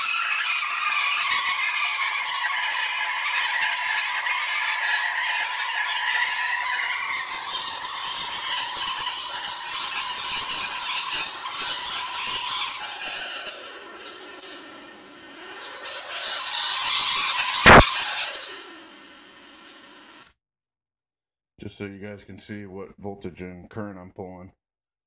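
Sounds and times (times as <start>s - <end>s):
tesla coil crackling buzz: 0.0s - 20.3s.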